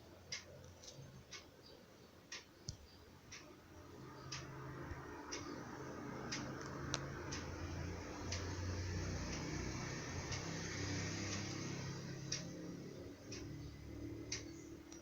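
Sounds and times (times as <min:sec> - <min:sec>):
ceiling fan humming: 0:00.0 - 0:15.0
sharp ticking: 0:02.2 - 0:15.0.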